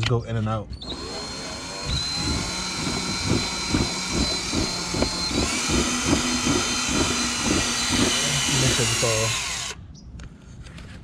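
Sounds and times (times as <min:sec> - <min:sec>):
knocking and rasping: 0:00.8 - 0:09.8
power drill whining: 0:00.8 - 0:09.8.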